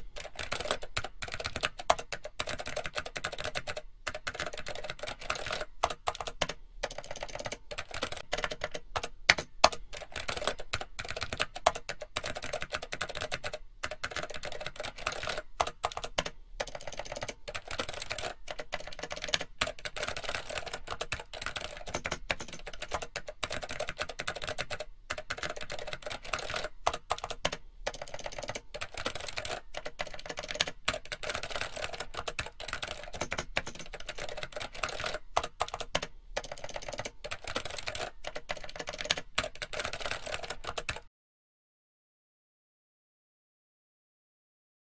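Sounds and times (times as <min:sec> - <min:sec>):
computer keyboard typing: 0:00.0 - 0:41.1.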